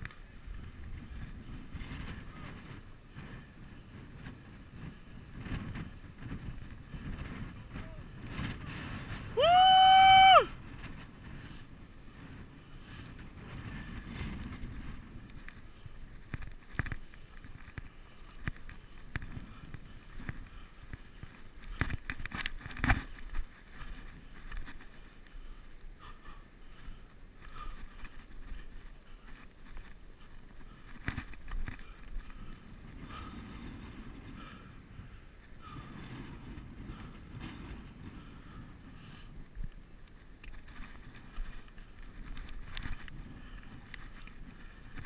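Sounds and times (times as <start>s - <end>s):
wind rumbling on microphone: 0.0s - 45.0s.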